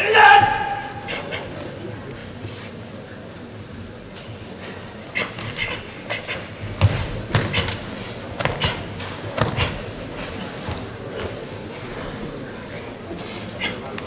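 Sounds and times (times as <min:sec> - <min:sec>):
low hall murmur: 0:00.0 - 0:14.0.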